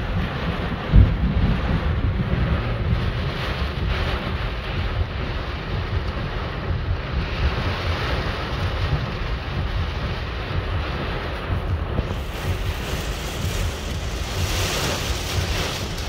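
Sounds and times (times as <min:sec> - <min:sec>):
deep low rumble: 0:00.0 - 0:16.0
heavy rain on a car: 0:00.0 - 0:16.0.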